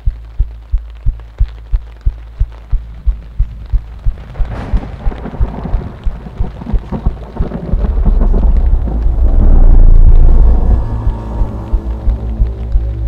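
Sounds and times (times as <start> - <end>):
falling rain: 0.0 - 13.0
low pulsing beat: 0.0 - 13.0
thunder rumbling: 0.0 - 13.0.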